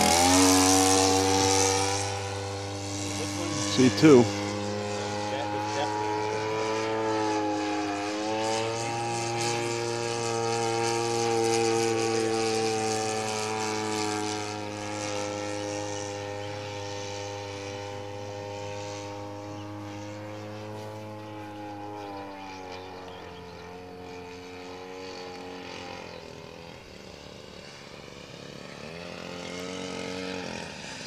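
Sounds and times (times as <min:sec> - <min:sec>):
model plane engine droning: 0:00.0 - 0:31.0.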